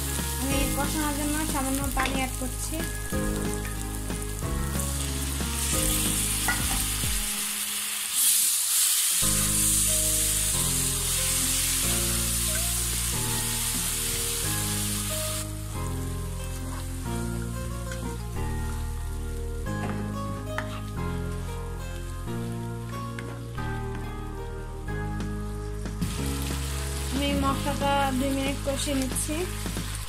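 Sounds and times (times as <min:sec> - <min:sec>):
masala sizzling in hot oil: 0:00.0 - 0:23.0, 0:25.7 - 0:30.0.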